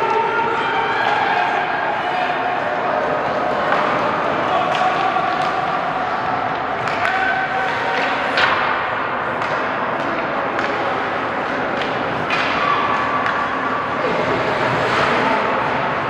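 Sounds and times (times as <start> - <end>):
echoing crowd voices: 0.0 - 16.0
hockey sticks and puck clacking: 0.0 - 16.0.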